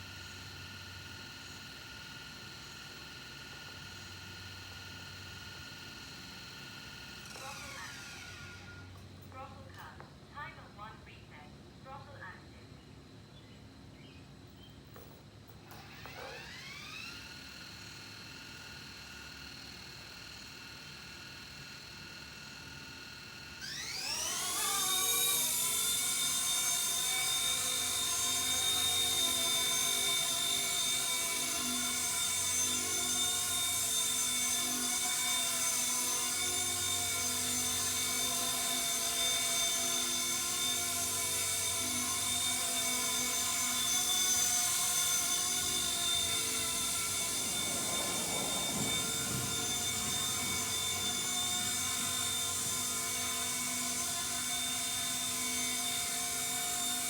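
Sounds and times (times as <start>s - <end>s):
toy helicopter motor whine: 0.0s - 10.0s, 14.9s - 57.0s.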